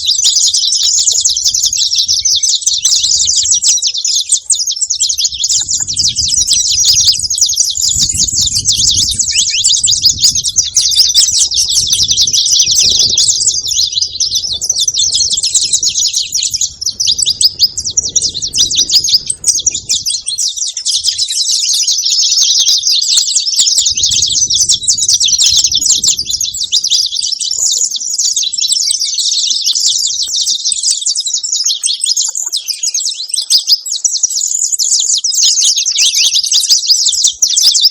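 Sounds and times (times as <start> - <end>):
finch singing chirps and trills: 0.0 - 37.9.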